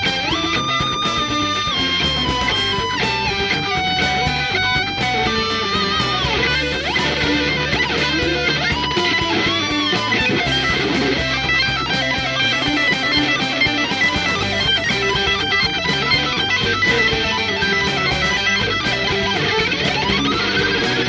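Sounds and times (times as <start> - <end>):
band backing with beat and bass: 0.0 - 21.0
electric guitar lead lines: 0.0 - 21.0.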